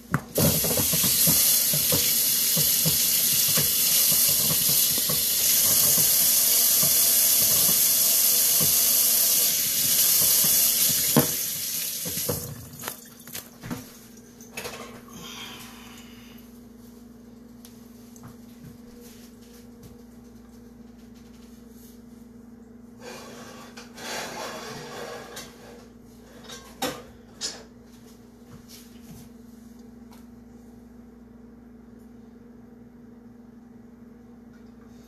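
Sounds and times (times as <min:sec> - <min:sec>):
appliance hum: 0:00.0 - 0:35.0.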